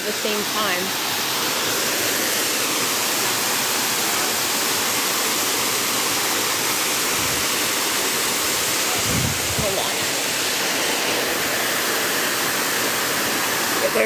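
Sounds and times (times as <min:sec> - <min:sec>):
waterfall crashing: 0:00.0 - 0:14.0.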